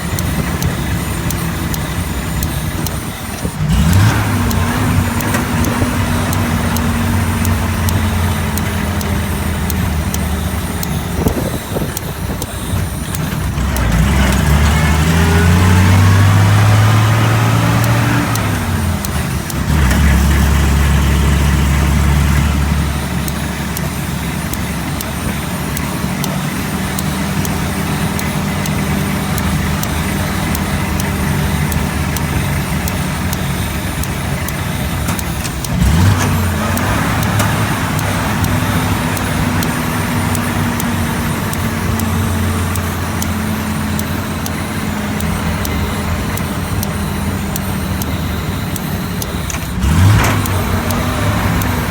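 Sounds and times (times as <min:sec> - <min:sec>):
vehicle engine accelerating: 0:00.0 - 0:51.9.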